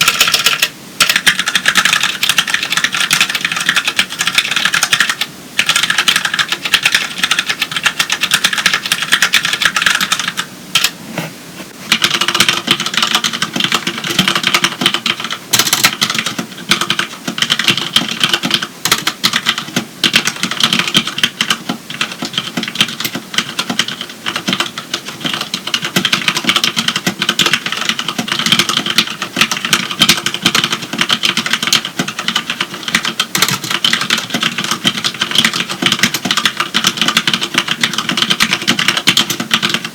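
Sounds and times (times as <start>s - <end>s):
typing on a mechanical keyboard: 0.0s - 10.9s, 11.9s - 39.9s.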